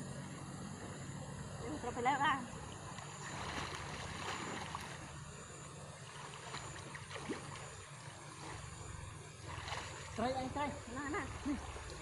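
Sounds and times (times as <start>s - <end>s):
river water sloshing: 0.0s - 12.0s.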